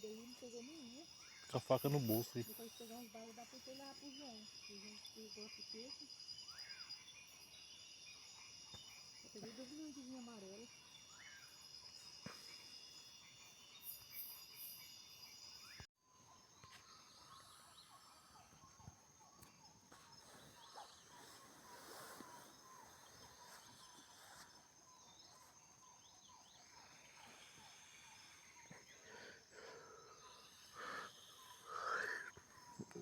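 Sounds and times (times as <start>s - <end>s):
high insect drone: 0.0s - 33.0s
insect and bird chirps: 0.0s - 33.0s.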